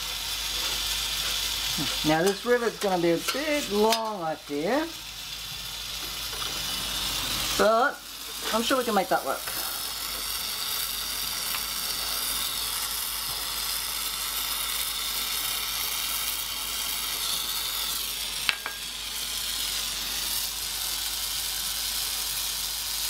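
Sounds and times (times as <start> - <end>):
gas torch flame hissing: 0.0 - 23.0.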